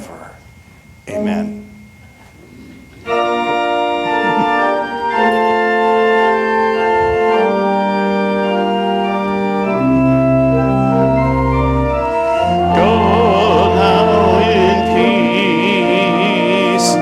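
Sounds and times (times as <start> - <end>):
church organ playing chords: 0.0 - 17.0
deep organ bass notes: 0.0 - 17.0.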